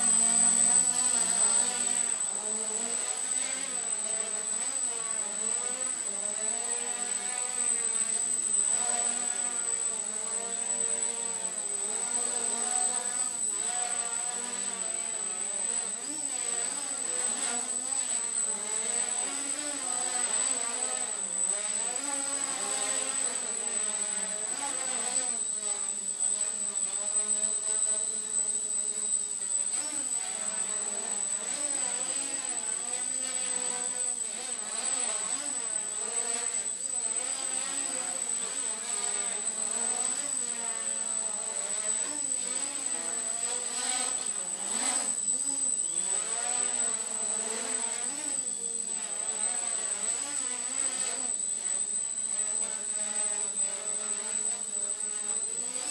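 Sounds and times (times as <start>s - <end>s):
quadcopter motors buzzing: 0.0s - 55.9s.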